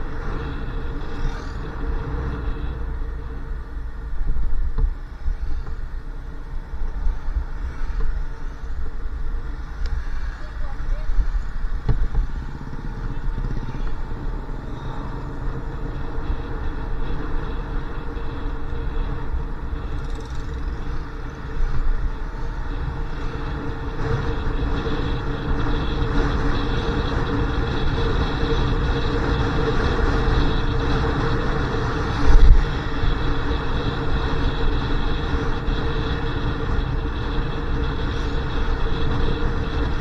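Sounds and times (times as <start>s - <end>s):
motorcycle engine running: 0.0s - 40.0s
wind rushing over microphone: 0.0s - 40.0s.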